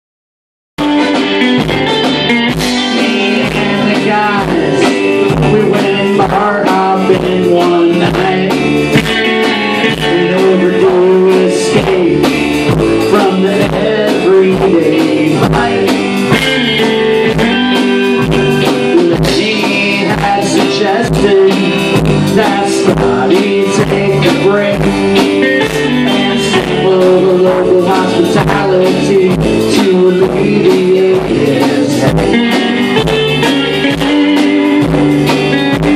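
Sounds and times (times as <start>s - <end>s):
live blues-rock band: 0.8s - 35.9s
steady drum beat: 0.8s - 35.9s.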